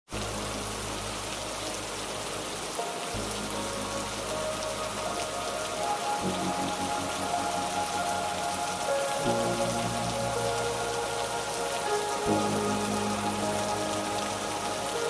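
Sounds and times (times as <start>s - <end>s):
rain pattering on hard surfaces: 0.1s - 15.0s
faint sustained tones: 0.2s - 15.0s.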